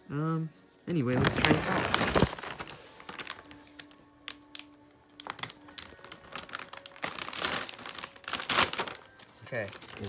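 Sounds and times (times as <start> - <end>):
snack bag crinkling: 1.1 - 10.0.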